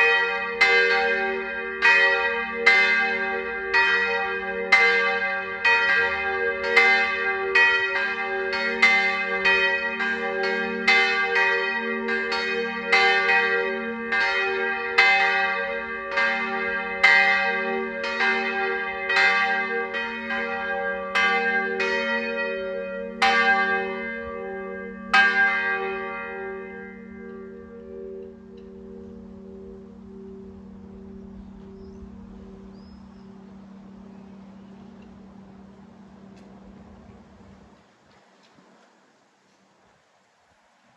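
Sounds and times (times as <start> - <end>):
church bells ringing: 0.0 - 36.5.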